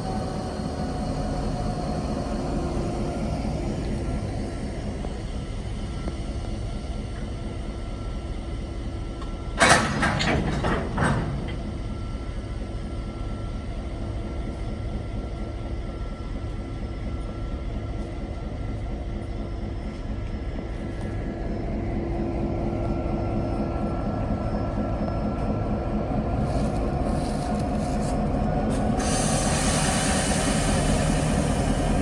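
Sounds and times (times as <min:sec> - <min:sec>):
diesel locomotive droning: 0:00.0 - 0:32.0
metallic clanks from train: 0:00.0 - 0:32.0.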